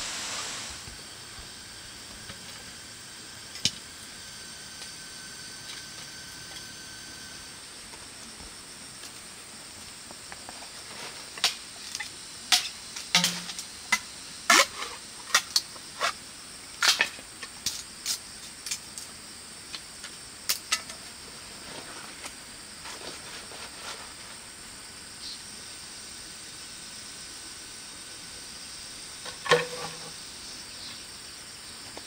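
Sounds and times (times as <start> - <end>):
high forest hiss: 0.0 - 32.0.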